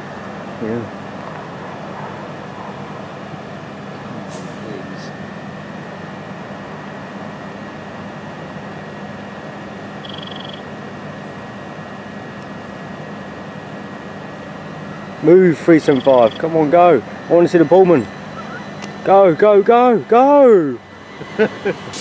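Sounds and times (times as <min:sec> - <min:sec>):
train electrical hum: 0:00.0 - 0:22.0.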